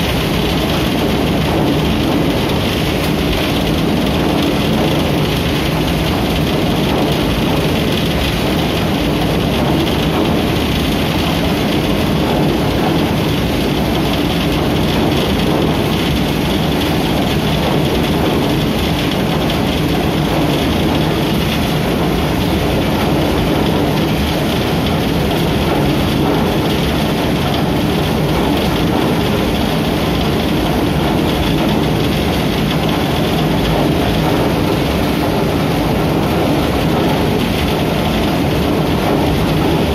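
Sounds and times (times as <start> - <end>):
threshing machine running: 0.0 - 39.9.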